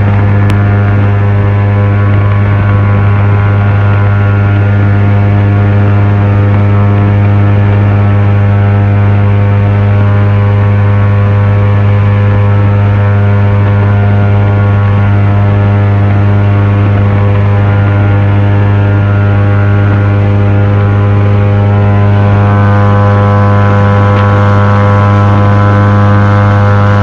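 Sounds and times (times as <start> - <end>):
airboat engine drone: 0.0 - 27.0.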